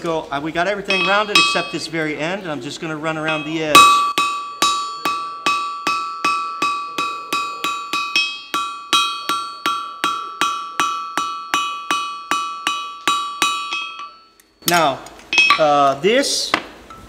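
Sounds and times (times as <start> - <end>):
anvil ringing: 0.8 - 2.3, 3.2 - 15.9
hammer striking hot metal on anvil: 0.9 - 2.0, 3.2 - 15.8.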